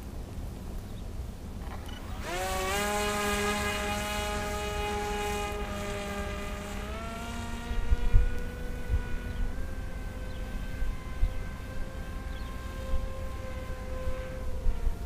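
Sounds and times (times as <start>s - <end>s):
rc plane motor whine: 1.6s - 15.0s.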